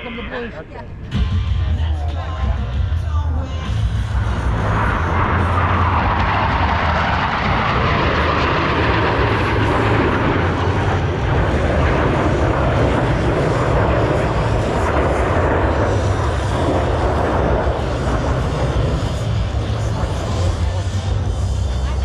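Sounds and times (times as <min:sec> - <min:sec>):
jets roaring past: 0:03.6 - 0:22.0.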